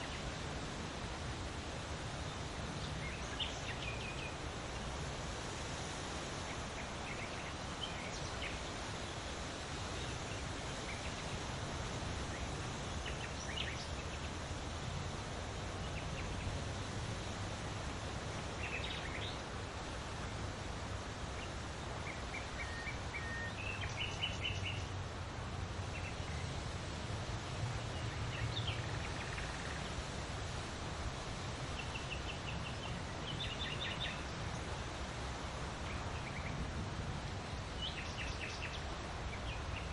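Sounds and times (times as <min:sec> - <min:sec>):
small birds chirping: 0:00.0 - 0:20.6, 0:21.2 - 0:25.2, 0:25.8 - 0:30.6, 0:31.4 - 0:36.8, 0:37.4 - 0:39.9
wind rustling leaves: 0:00.0 - 0:39.9.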